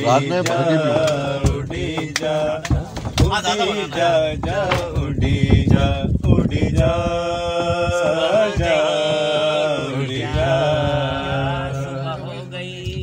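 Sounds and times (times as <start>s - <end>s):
man singing wordless melody: 0.0s - 13.0s.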